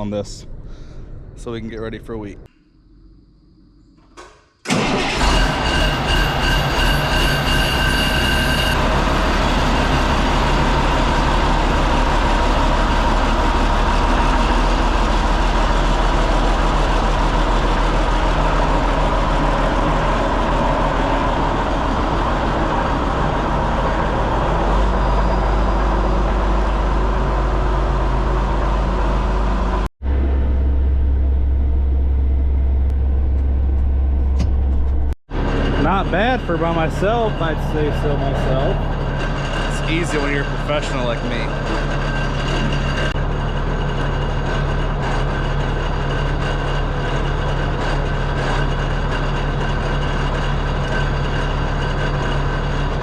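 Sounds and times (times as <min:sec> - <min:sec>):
deep low-pitched engine: 0:00.0 - 0:04.0, 0:04.7 - 0:53.0
tractor engine running: 0:04.6 - 0:53.0.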